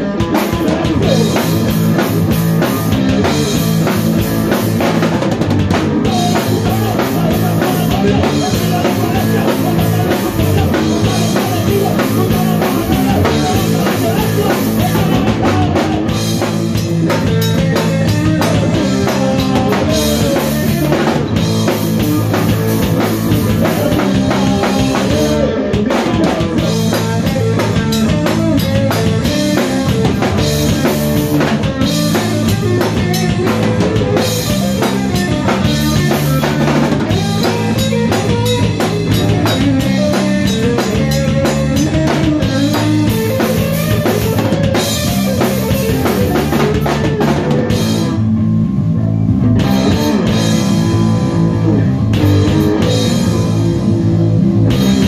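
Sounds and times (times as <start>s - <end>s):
rock band playing live: 0.0s - 55.0s
bass drum: 0.6s - 55.0s.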